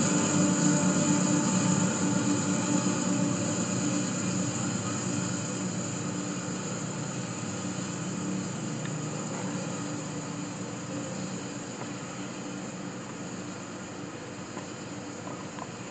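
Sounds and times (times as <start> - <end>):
diesel locomotive engine drone: 0.0 - 15.9.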